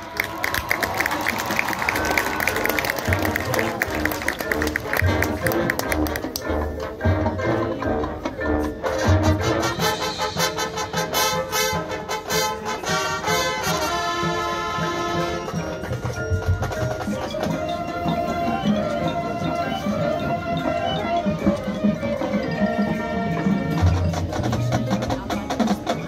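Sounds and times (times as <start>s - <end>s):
drums: 0.0s - 26.0s
marching band brass: 0.0s - 26.0s
mallet percussion: 0.1s - 12.2s, 13.6s - 26.0s.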